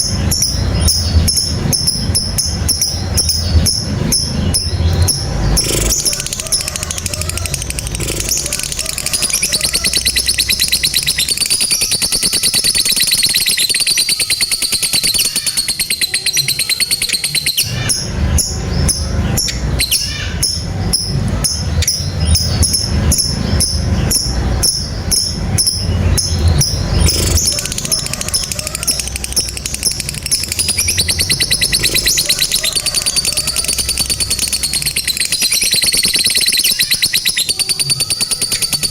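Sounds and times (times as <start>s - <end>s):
lovebirds chattering trill: 0.0s - 38.9s.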